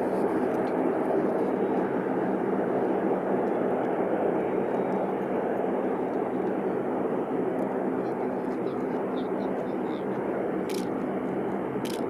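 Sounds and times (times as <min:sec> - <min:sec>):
airliner engine rush: 0:00.0 - 0:12.0.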